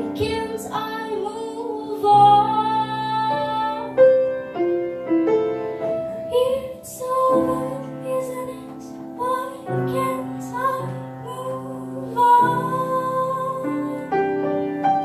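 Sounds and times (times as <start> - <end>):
woman singing: 0.0 - 4.4, 6.1 - 14.5
piano chords: 0.0 - 15.0.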